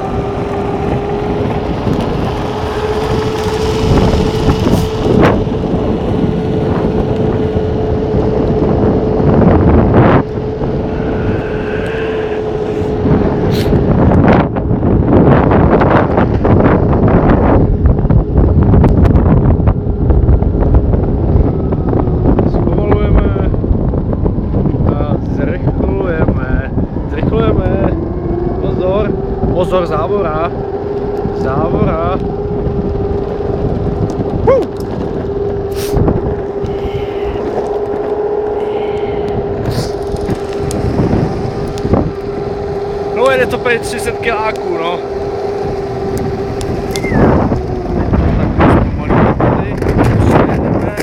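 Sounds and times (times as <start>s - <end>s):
electric motor whine: 0.0s - 50.0s
wheels rumbling on pavement: 0.0s - 51.0s
wind buffeting microphone: 0.0s - 51.0s.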